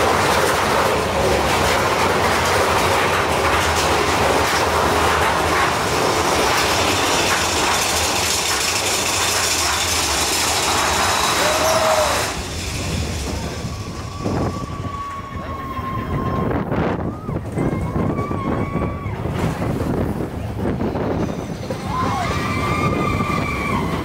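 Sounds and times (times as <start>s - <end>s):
roller coaster rattle and rumble: 0.0s - 24.0s.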